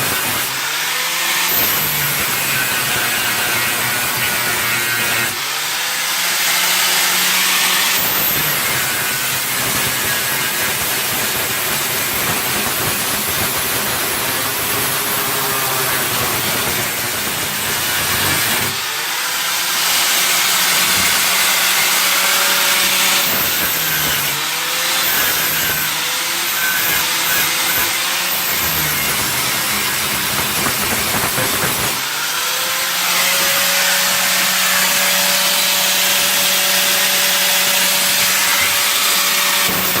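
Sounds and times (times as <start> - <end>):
angle grinder grinding steel: 0.0 - 40.0.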